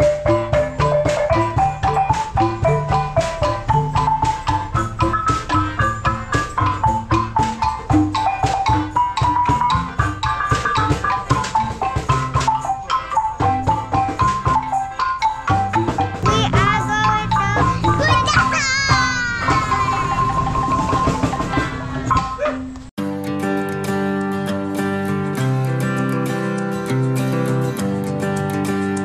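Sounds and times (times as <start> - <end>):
background music with drum beat: 0.0 - 29.0.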